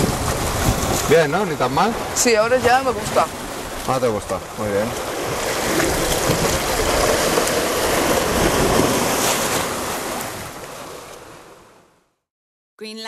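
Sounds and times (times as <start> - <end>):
surf washing against rocks: 0.0 - 11.8.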